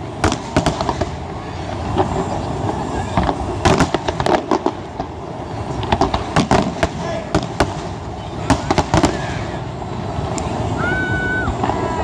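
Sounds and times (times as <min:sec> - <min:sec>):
firework bangs and cracks: 0:00.0 - 0:12.0.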